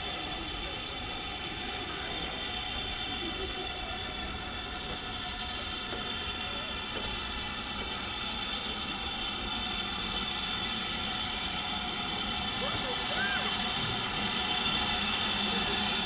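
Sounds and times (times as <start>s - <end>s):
steam locomotive rumbling slowly: 0.0s - 16.0s.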